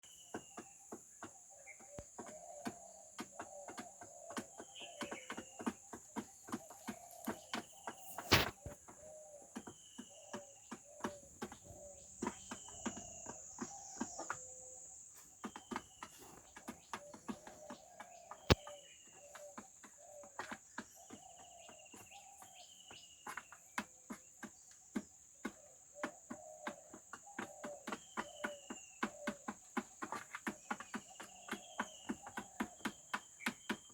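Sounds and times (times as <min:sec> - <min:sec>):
chickens pecking at feed: 0:00.1 - 0:33.9.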